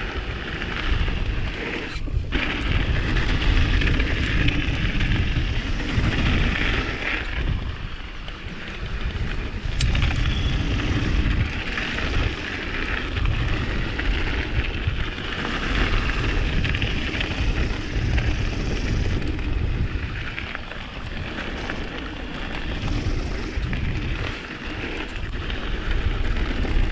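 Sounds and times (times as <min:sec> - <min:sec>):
bike tyres rumbling on trail: 0:00.0 - 0:26.9
wind on microphone: 0:00.0 - 0:26.9.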